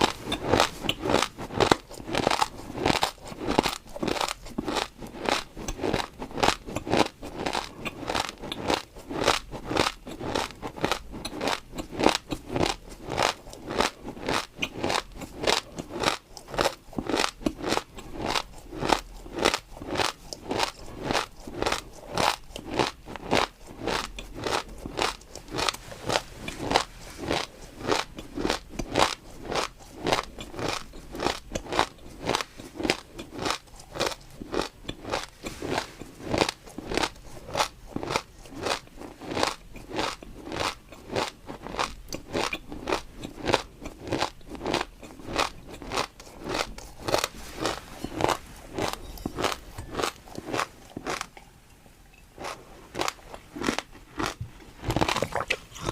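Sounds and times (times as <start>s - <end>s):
chewing crunchy food: 0.0s - 55.9s.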